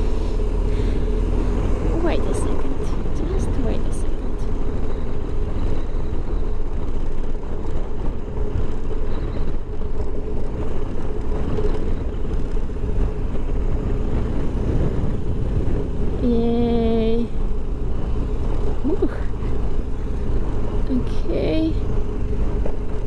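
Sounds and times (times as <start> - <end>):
motorcycle engine running: 0.0 - 23.0
road noise: 0.0 - 23.0.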